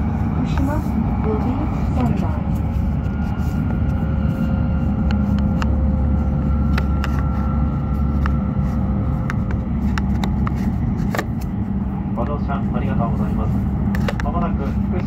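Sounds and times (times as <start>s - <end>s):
faint steady whine: 0.0s - 15.0s
train interior low rumble: 0.0s - 15.0s.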